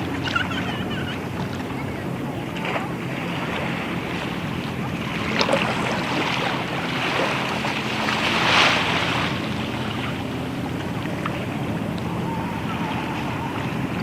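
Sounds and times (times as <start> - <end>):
boat engine running: 0.0 - 14.0
rushing water: 0.0 - 14.0
wind on microphone: 0.0 - 14.0.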